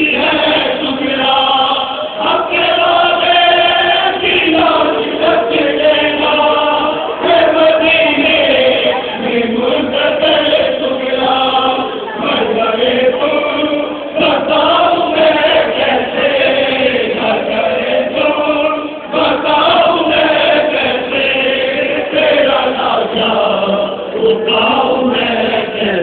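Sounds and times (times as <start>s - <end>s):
group lament chant: 0.0s - 26.0s.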